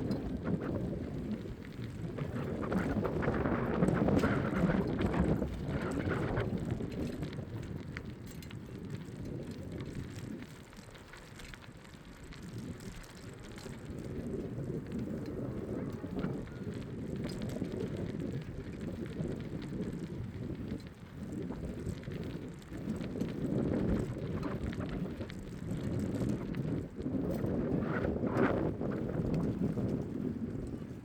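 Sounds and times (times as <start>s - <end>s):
bicycle tyres crackling on path: 0.0s - 31.0s
wind rumbling on microphone: 0.0s - 31.0s.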